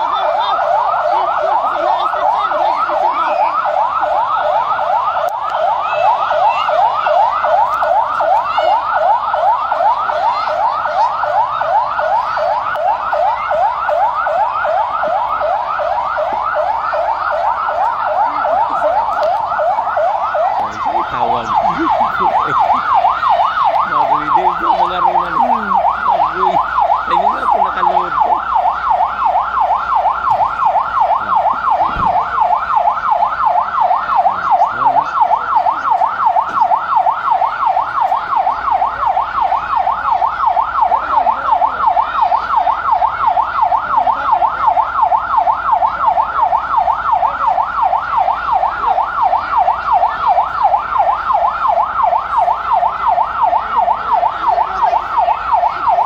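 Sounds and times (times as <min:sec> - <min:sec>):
warbling alarm siren: 0:00.0 - 0:56.0.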